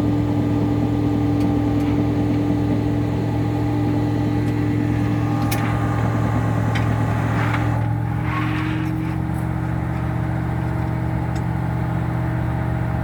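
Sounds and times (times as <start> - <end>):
tow truck engine running: 0.0 - 13.0.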